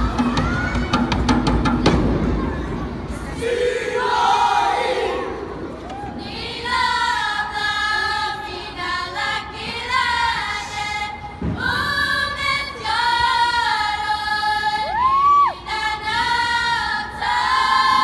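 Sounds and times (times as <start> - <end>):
girls singing in unison: 3.5 - 18.0.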